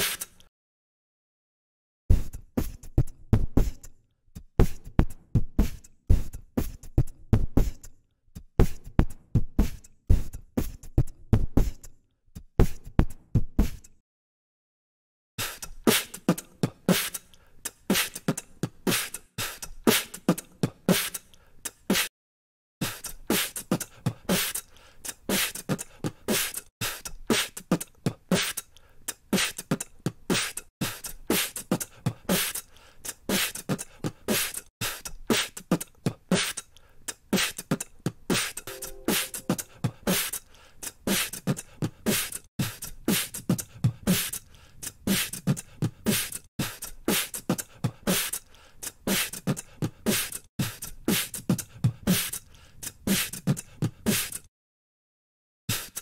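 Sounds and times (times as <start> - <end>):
beatbox beat: 0.0 - 0.5, 2.1 - 14.0, 15.4 - 22.1, 22.8 - 54.5, 55.7 - 56.0.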